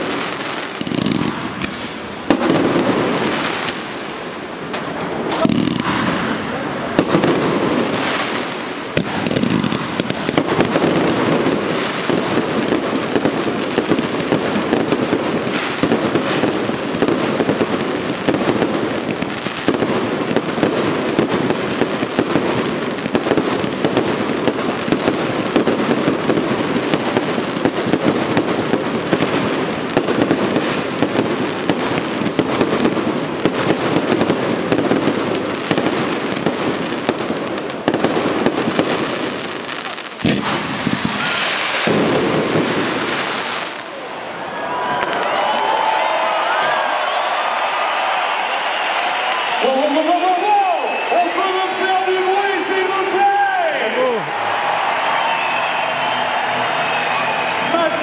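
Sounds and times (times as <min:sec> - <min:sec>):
fireworks barrage bursting: 0:00.0 - 0:58.0.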